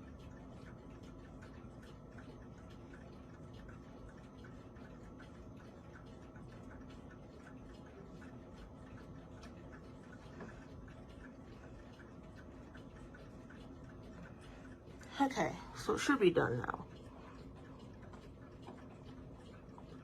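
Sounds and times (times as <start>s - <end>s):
clock ticking faintly: 0.0s - 20.0s.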